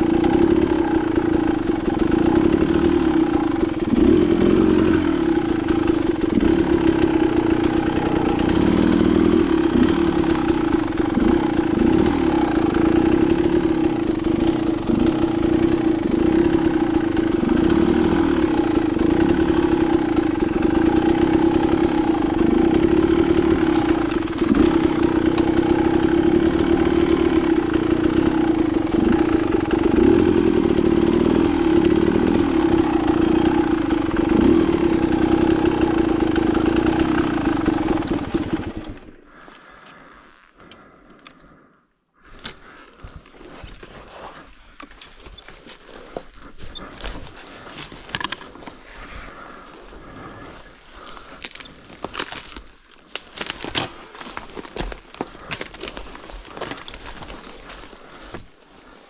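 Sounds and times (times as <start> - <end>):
dirt bike engine running: 0.0 - 41.8, 42.5 - 59.0.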